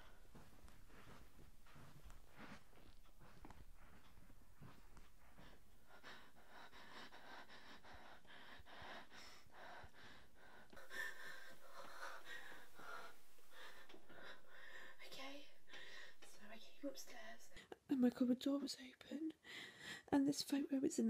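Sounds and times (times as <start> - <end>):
woman breathing heavily: 0.0 - 17.8, 19.4 - 20.1.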